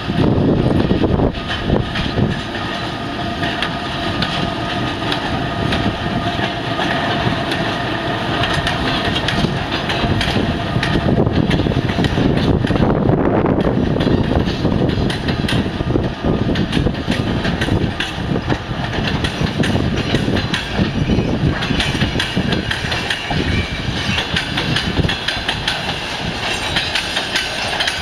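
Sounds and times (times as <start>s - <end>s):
train rumble: 0.0s - 28.0s
train wheels clicking over rail joints: 0.0s - 28.0s.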